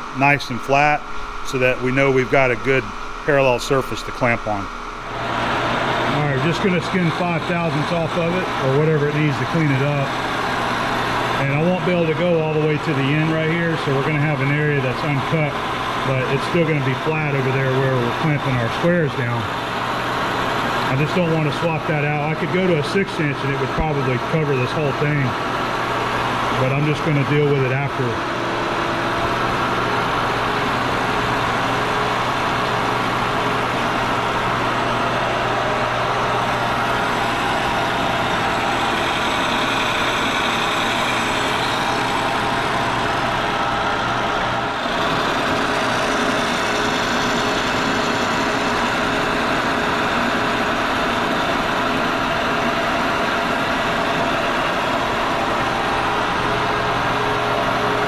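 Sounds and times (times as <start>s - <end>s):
milling machine cutting metal: 0.0s - 58.0s.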